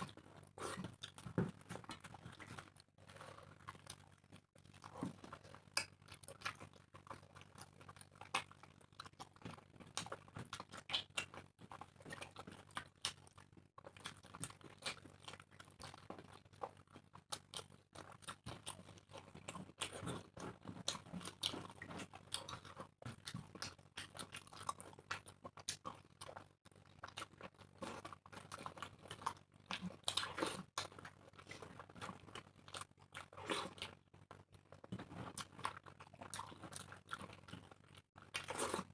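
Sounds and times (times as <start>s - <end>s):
people chewing food: 0.0s - 38.9s.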